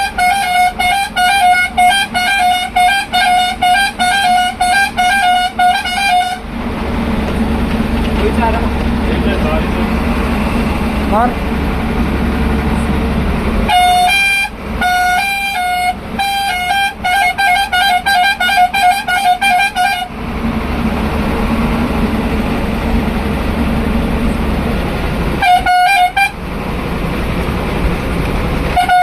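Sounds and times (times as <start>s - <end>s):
bus engine and road noise: 0.0s - 29.0s
bus horn toots: 0.0s - 29.0s.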